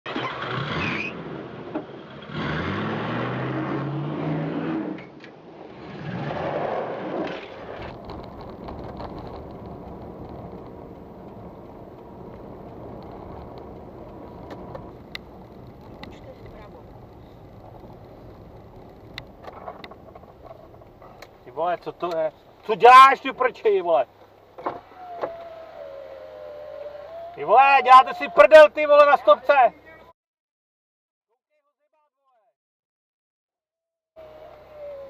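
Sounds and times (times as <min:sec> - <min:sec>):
car engine and road noise: 0:00.1 - 0:30.1, 0:34.2 - 0:35.0.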